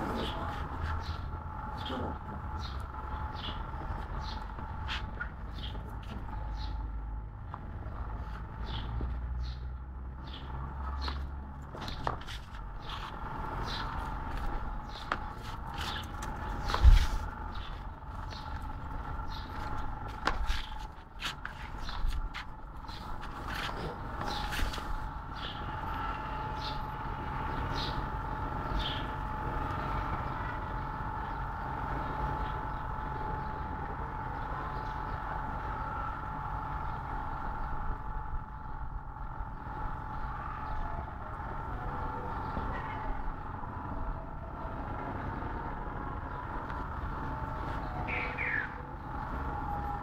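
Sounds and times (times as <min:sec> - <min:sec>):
low rumble with mechanical hum: 0:00.0 - 0:50.0.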